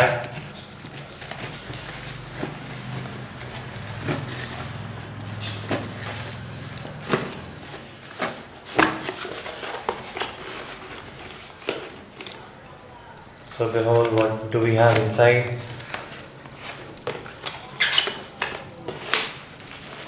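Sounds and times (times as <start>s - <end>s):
packing material rustling: 0.0s - 12.5s, 13.8s - 20.0s.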